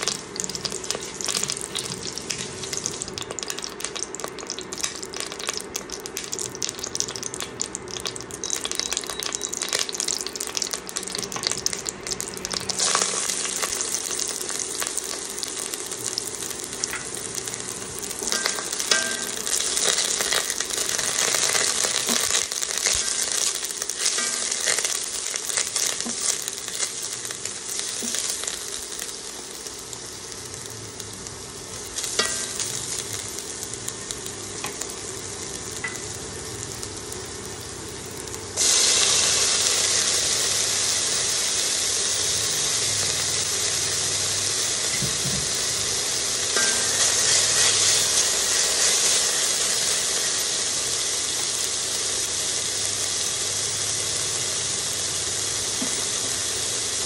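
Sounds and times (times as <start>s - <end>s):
onion sizzling in hot oil: 0.0s - 57.0s.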